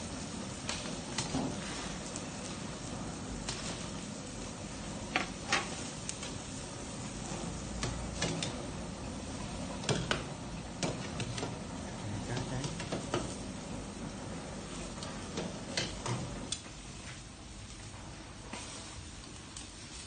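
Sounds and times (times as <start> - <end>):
frying hiss: 0.0 - 20.0.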